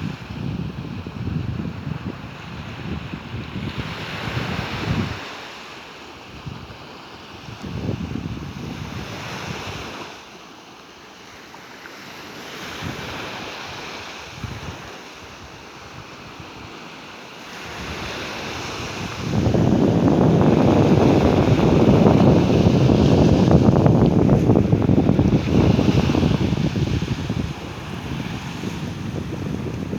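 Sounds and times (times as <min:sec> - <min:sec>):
wind on microphone: 0:00.0 - 0:05.3, 0:06.3 - 0:10.1, 0:12.6 - 0:16.8, 0:17.5 - 0:29.9
sea waves washing onto beach: 0:00.0 - 0:29.9.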